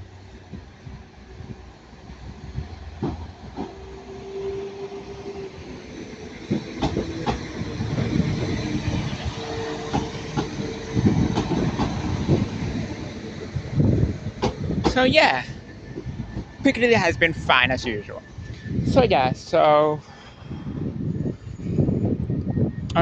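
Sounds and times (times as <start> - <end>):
diesel train engine humming: 0.0 - 23.0.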